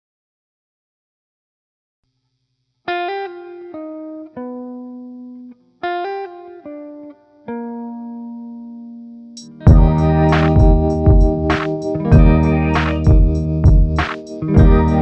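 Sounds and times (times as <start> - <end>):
plucked guitar notes: 3.0 - 15.0.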